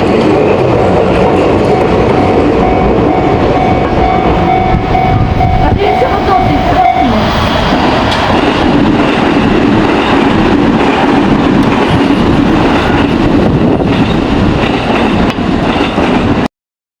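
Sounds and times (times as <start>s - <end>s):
train wheels rumbling on rails: 0.0s - 16.5s.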